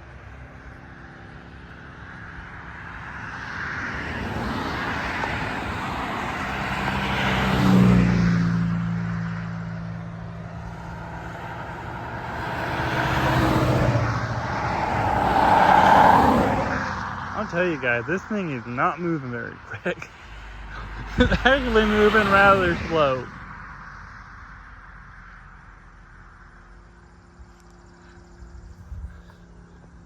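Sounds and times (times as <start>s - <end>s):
vehicles passing by: 0.0s - 30.0s.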